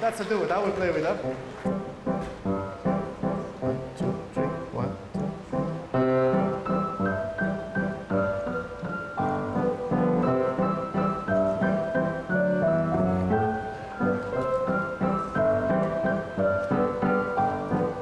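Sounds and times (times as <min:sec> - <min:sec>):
piano duet: 0:00.0 - 0:18.0.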